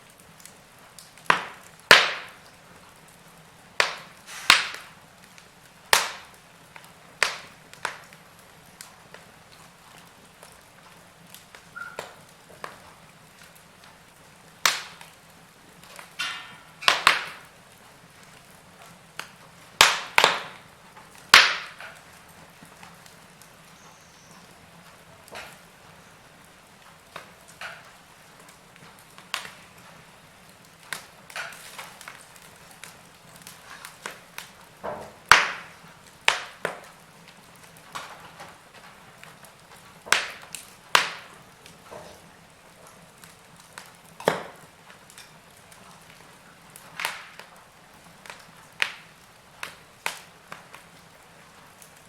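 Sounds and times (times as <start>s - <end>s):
faint steady hiss: 0.0s - 52.0s
wood fire crackling: 0.0s - 52.0s.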